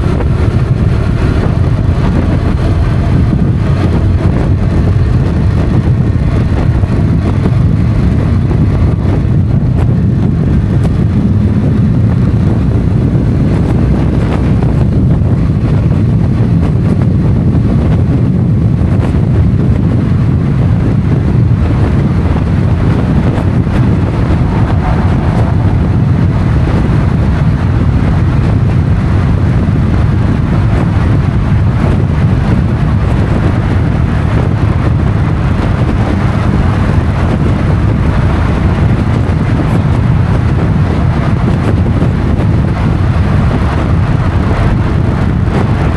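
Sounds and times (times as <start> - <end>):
motorcycle running: 0.0 - 45.9
wind rumble on microphone: 0.0 - 45.9.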